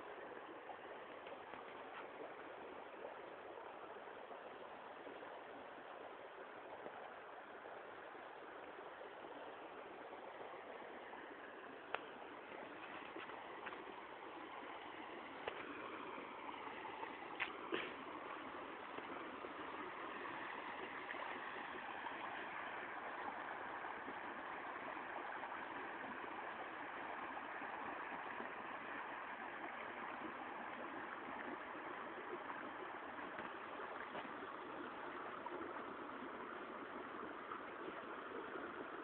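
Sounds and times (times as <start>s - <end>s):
creek water rushing over rocks: 0.0s - 39.0s.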